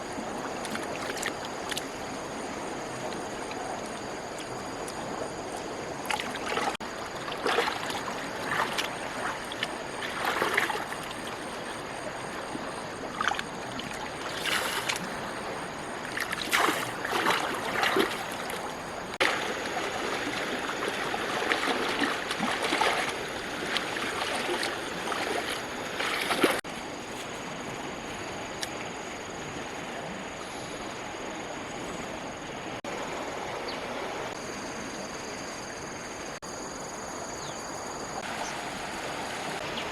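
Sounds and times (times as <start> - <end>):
water splashing and sloshing: 0.0 - 35.1, 38.0 - 39.9
high insect drone: 0.0 - 39.9.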